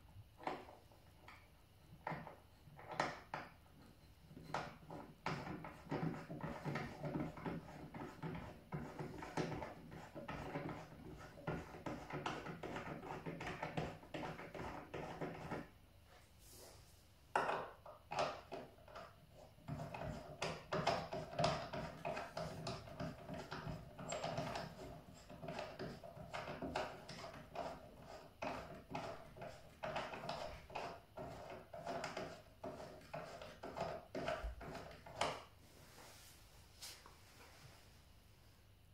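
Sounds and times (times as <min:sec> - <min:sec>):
plastic threads scraping and clicking: 0:00.4 - 0:15.7, 0:17.4 - 0:35.5.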